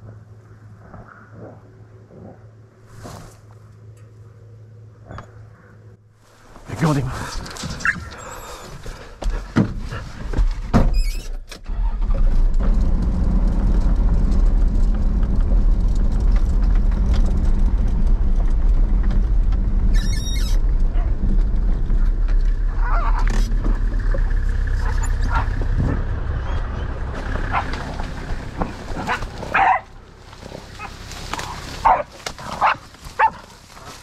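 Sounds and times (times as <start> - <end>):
vehicle rumbling on dirt track: 0.0 - 34.0.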